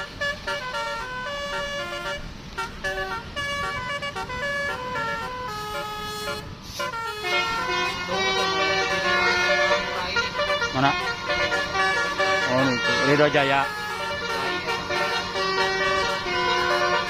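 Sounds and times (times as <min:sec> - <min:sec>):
multi-tone horn melody: 0:00.0 - 0:17.0.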